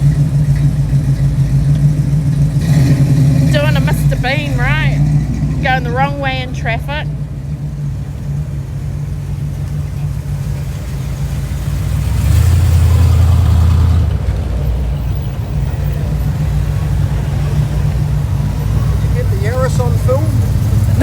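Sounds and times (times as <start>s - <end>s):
car engines in slow traffic: 0.0s - 21.0s.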